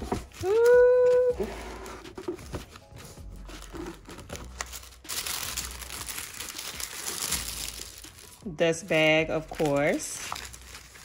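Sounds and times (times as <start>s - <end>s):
tissue paper rustling: 0.0s - 11.0s.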